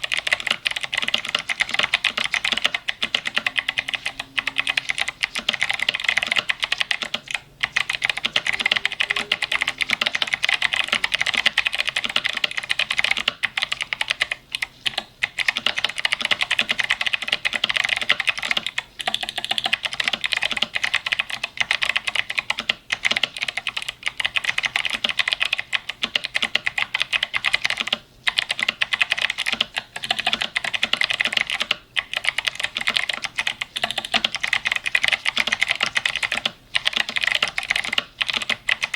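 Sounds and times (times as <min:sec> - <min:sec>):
clicky keyboard typing: 0:00.0 - 0:38.9.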